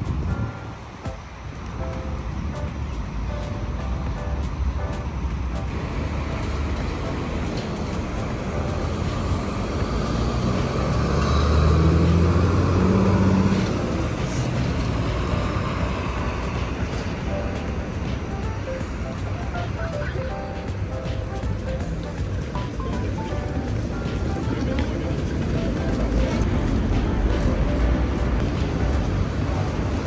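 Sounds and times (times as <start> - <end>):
bus engine droning rumble: 0.0 - 30.0
city street traffic: 0.0 - 30.0.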